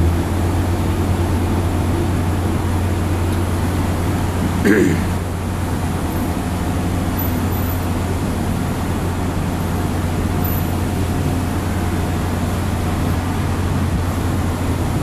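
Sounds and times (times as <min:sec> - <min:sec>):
low engine drone: 0:00.0 - 0:15.0
street traffic: 0:00.0 - 0:15.0.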